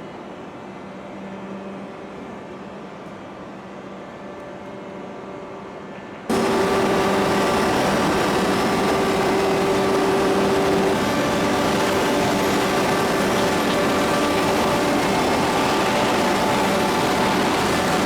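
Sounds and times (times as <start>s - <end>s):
machinery hum with held tone: 0.0s - 18.0s.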